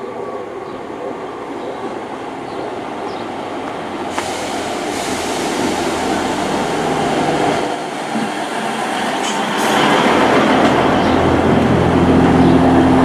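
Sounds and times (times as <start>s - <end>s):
diesel train engines: 0.0s - 13.0s
train wheels on rails: 0.0s - 13.0s.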